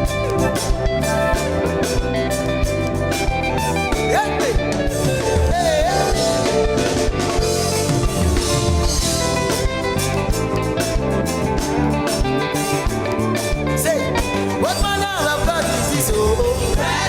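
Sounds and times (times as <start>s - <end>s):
guitar and drums music: 0.0s - 17.0s.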